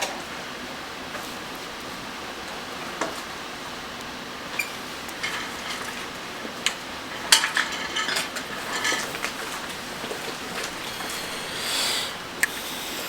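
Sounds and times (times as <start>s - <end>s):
steady hiss: 1.0s - 13.0s.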